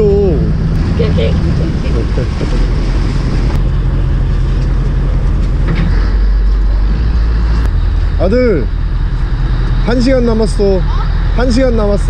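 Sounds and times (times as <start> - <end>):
boat engine running steadily: 0.0 - 12.0
water wash: 0.0 - 12.0.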